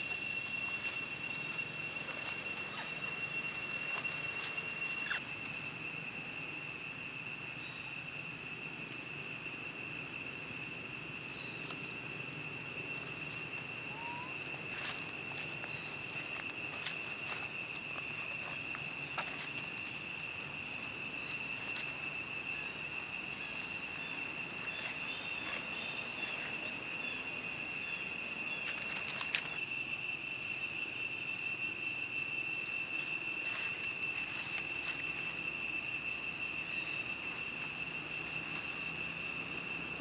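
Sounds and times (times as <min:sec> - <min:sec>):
insect trill: 0:00.0 - 0:40.0.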